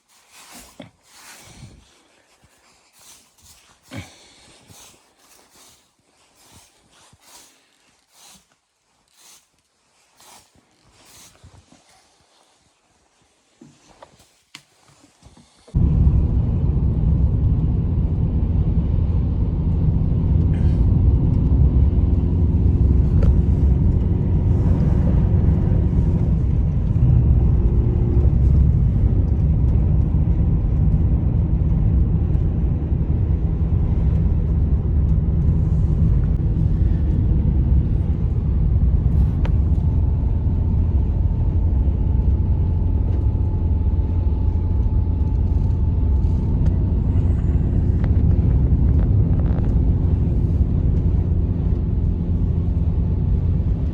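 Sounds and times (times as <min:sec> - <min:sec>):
blizzard wind buffeting microphone: 0:00.0 - 0:08.4, 0:15.7 - 0:53.9.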